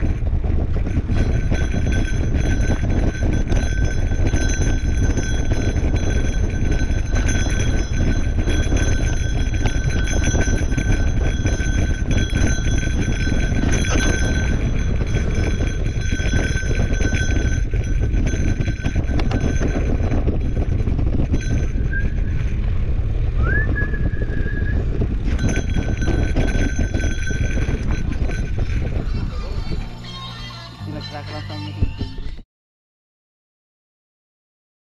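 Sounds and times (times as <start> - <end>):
bike tyres rumbling on dirt: 0.0 - 29.0
bike rattling and knocking: 0.0 - 30.5.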